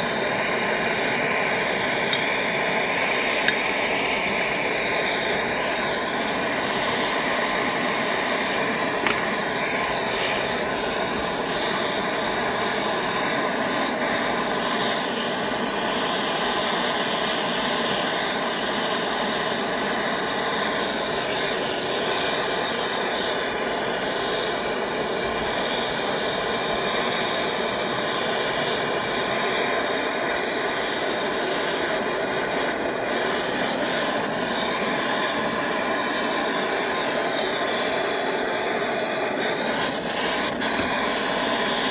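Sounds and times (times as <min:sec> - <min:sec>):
gas torch flame burning: 0:00.0 - 0:41.9.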